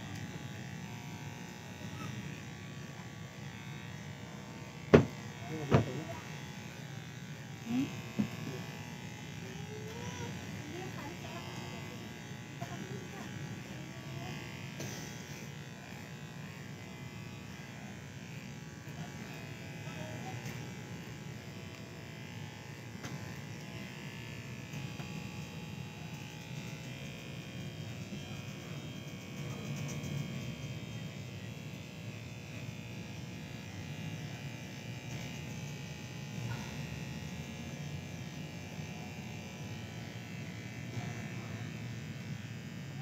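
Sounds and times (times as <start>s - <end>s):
electric hair clippers buzzing: 0.0s - 43.0s.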